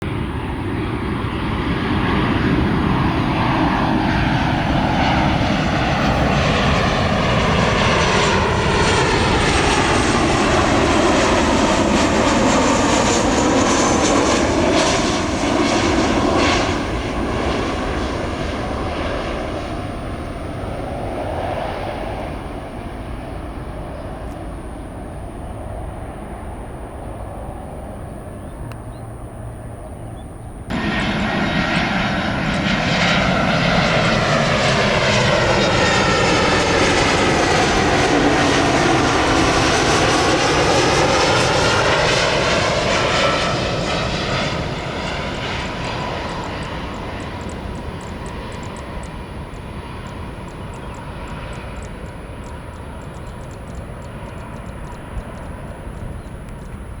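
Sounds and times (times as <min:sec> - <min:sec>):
jet airliner passing overhead: 0:00.0 - 0:57.0.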